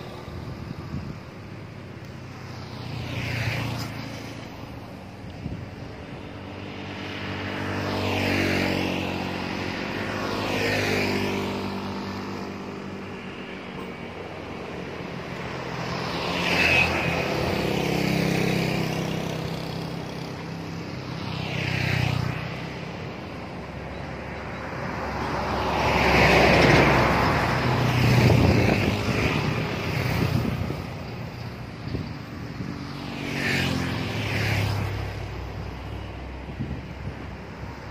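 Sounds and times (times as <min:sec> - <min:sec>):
cars passing: 0:00.0 - 0:37.9
motorcycles passing: 0:00.0 - 0:37.9.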